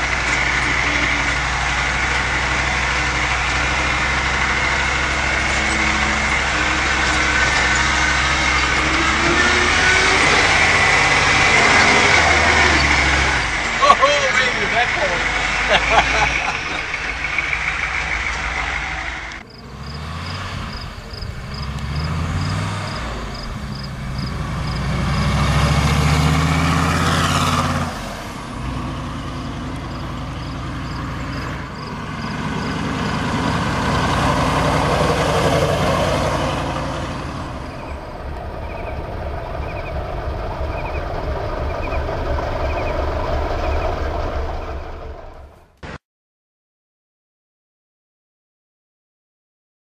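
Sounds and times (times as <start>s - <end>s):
diesel engine driving by: 0.0s - 46.0s.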